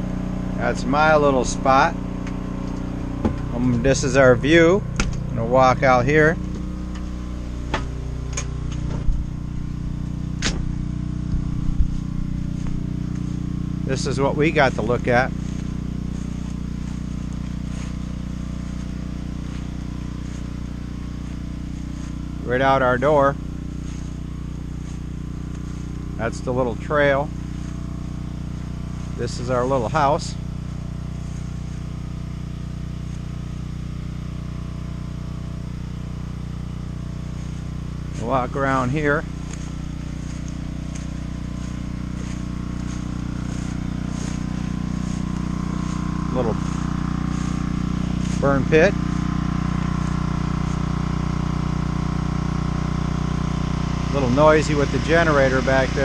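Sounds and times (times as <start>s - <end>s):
generator humming: 0.0s - 56.0s.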